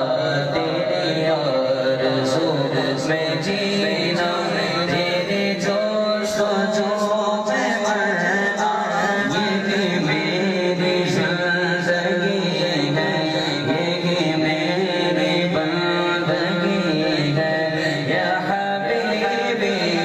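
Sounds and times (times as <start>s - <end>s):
men chanting through a sound system: 0.0s - 20.0s.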